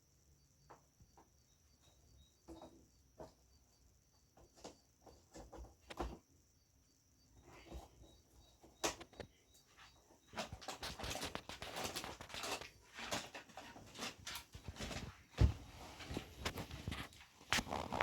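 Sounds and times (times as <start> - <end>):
rustling and small knocks: 0.6 - 6.5, 7.3 - 18.0.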